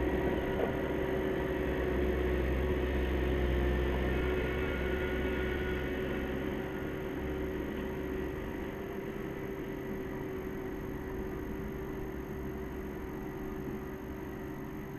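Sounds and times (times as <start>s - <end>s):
distant diesel engine running: 0.0s - 14.6s.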